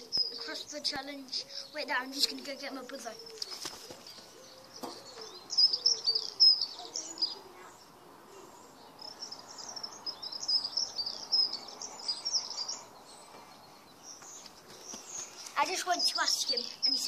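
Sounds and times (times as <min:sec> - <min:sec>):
songbird chirping and warbling: 0:00.0 - 0:17.0.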